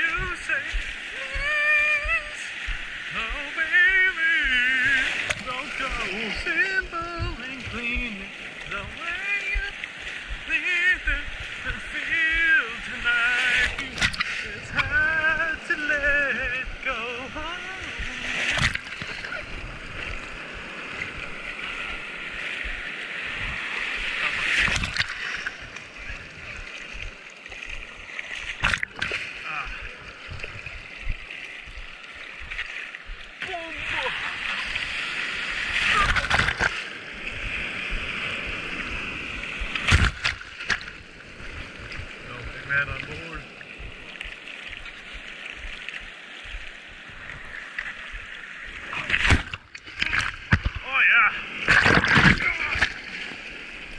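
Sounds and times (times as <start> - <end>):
sharp water splash: 0.0 - 43.4, 47.5 - 53.8
water rushing: 0.0 - 53.9.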